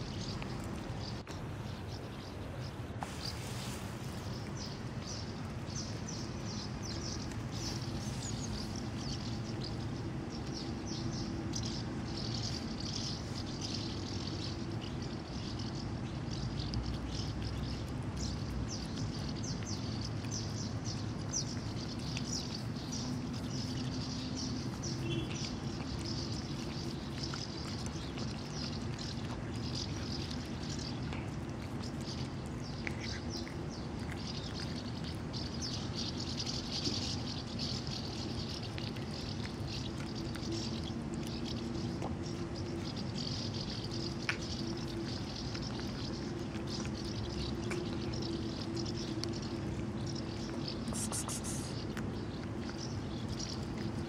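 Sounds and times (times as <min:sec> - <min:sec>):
cat chewing wet food: 0:00.0 - 0:02.6, 0:04.0 - 0:54.0.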